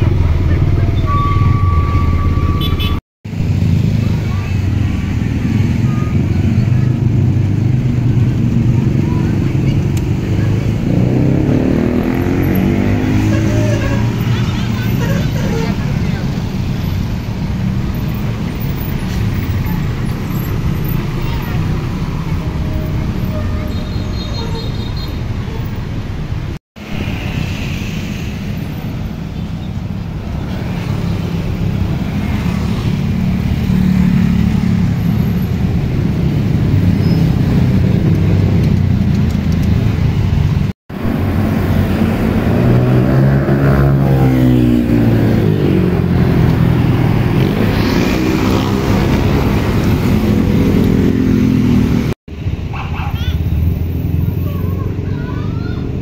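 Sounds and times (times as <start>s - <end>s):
cars passing: 0.0s - 24.2s, 25.1s - 56.0s
buses passing with engines running: 0.0s - 56.0s
motorbikes passing: 0.0s - 56.0s.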